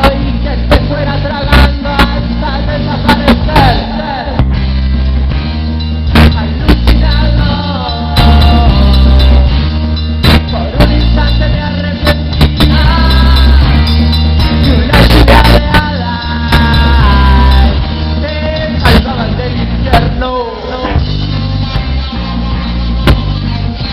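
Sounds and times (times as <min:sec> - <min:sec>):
drums beating: 0:00.0 - 0:22.0, 0:22.9 - 0:23.9
bending melodic lead line: 0:00.0 - 0:23.9
heavy bass line: 0:00.0 - 0:23.9
rock band playing live: 0:00.0 - 0:23.9.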